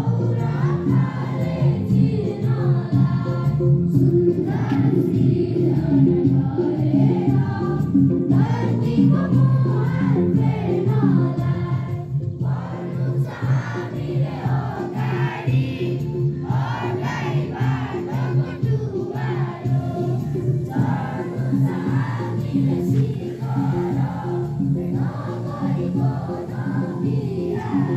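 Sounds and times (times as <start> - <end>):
choir singing: 0.0 - 27.9
musical accompaniment: 0.0 - 27.9.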